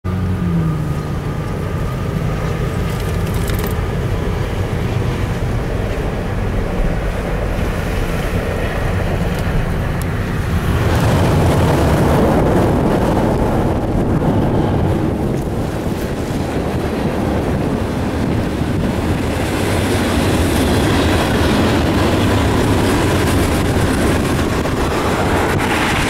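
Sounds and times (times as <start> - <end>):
diesel locomotive engine rumble: 0.0 - 26.0
train rushing over bridge: 0.1 - 26.0.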